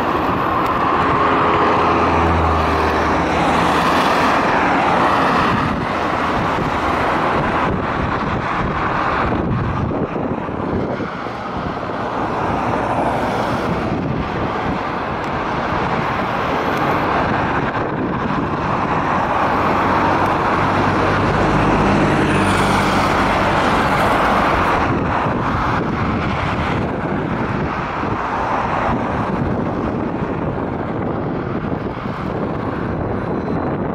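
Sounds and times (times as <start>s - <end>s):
car engine hum: 0.0s - 33.9s
road traffic noise: 0.0s - 33.9s
wind buffeting microphone: 0.0s - 33.9s.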